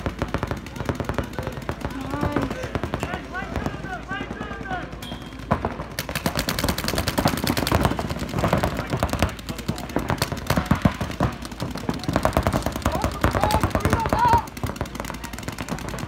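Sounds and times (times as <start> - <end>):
paintball markers firing: 0.0 - 16.0.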